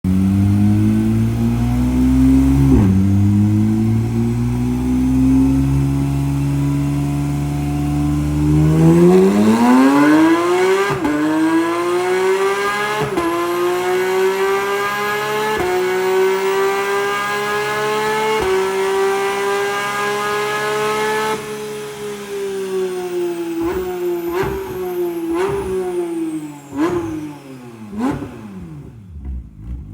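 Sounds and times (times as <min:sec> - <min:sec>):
sports car engine revving on dyno: 0:00.1 - 0:29.9.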